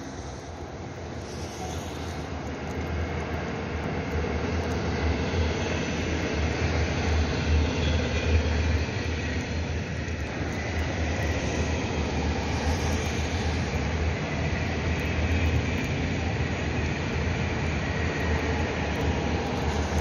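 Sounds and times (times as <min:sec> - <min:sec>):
distant high-speed train rushing: 0:00.0 - 0:20.0.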